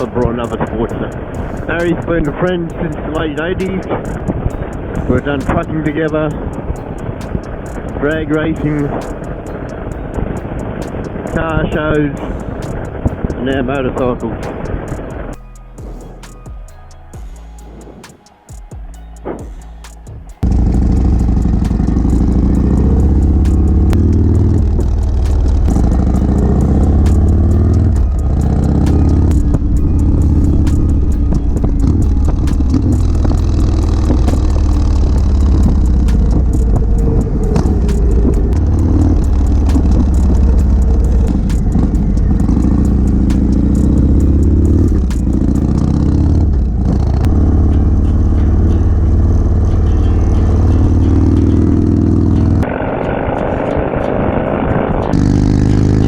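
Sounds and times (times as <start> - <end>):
motorcycle engine running: 0.0 - 15.4, 20.4 - 56.0
wind rushing: 0.0 - 15.4, 20.4 - 49.9.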